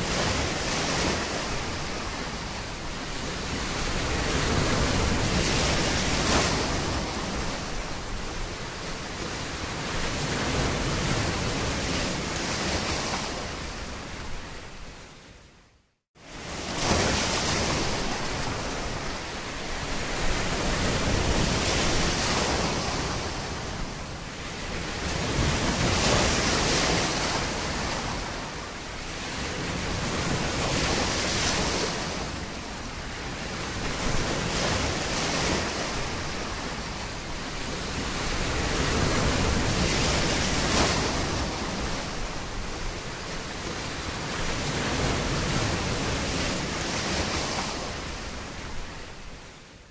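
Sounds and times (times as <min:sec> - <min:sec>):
sea waves surging: 0:00.0 - 0:15.1, 0:16.2 - 0:49.7.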